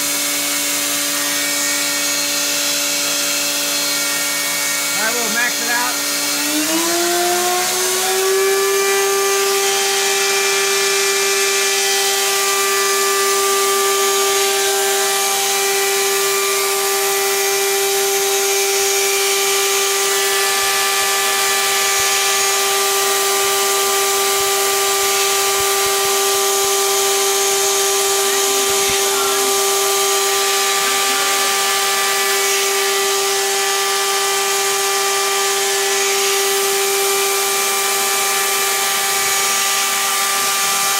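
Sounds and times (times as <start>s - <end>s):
belt sander high-pitched hum: 0.0s - 40.9s.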